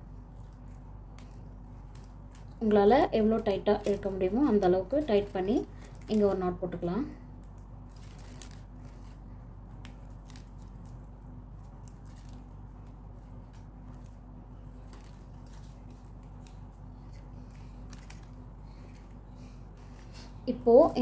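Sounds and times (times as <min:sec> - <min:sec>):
steady low hum: 0:00.0 - 0:21.0
plastic wire clicking and rustling: 0:00.3 - 0:06.7, 0:07.3 - 0:20.1.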